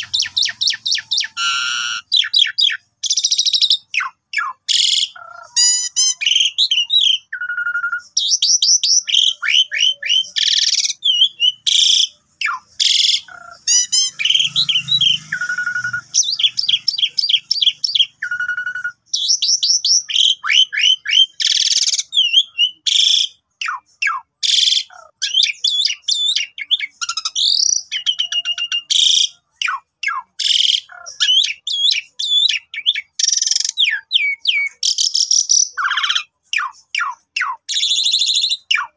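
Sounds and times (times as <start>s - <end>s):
starling singing: 0.0s - 38.9s.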